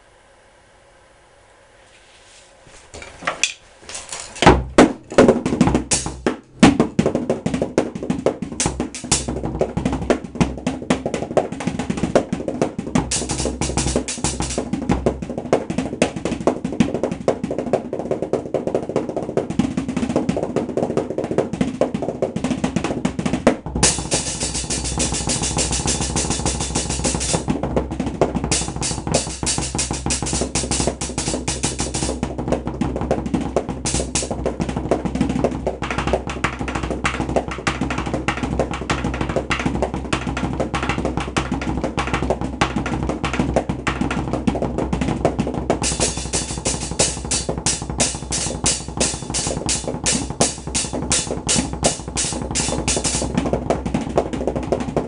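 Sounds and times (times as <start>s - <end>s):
drumming on buckets and tubs: 4.4s - 55.0s.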